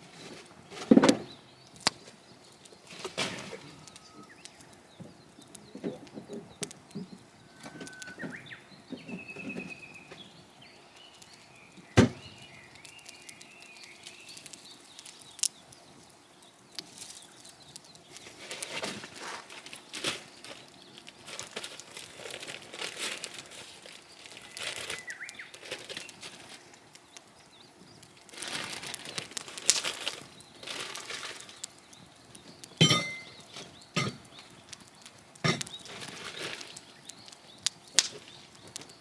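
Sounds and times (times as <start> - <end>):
rustling and crinkling: 0.0 - 39.0.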